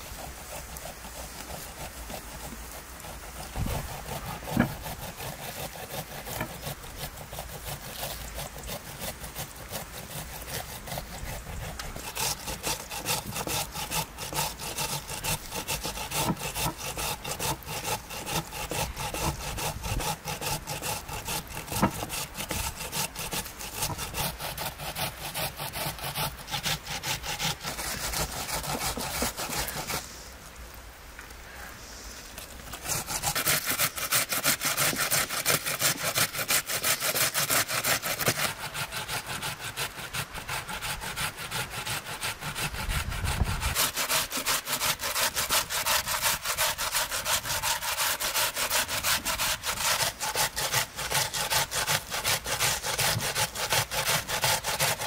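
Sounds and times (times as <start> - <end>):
knife sawing through meat: 0.0 - 30.3, 32.3 - 55.0.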